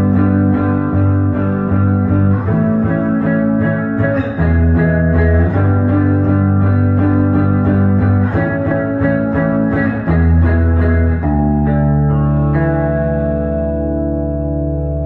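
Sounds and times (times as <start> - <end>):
electric guitar ringing notes: 0.0 - 15.0.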